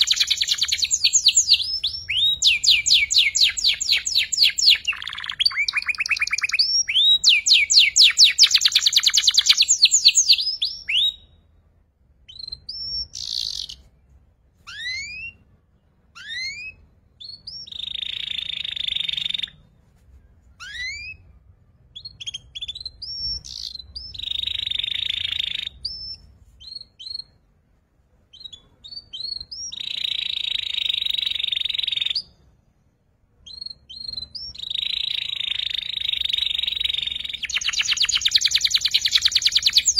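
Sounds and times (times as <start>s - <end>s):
canary trilling and chirping: 0.0s - 11.3s, 12.3s - 13.9s, 14.7s - 15.4s, 16.1s - 19.6s, 20.6s - 27.4s, 28.3s - 32.4s, 33.4s - 39.9s.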